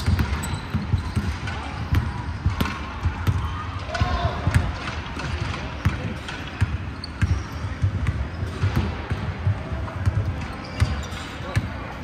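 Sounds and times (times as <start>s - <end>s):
basketballs bouncing on wooden floor: 0.0s - 11.9s.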